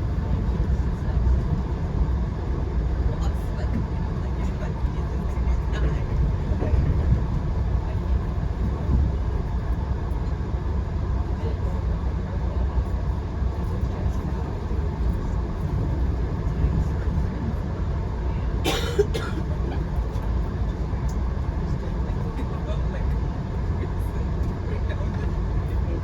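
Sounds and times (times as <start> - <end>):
train rumbling inside coach: 0.0 - 26.0.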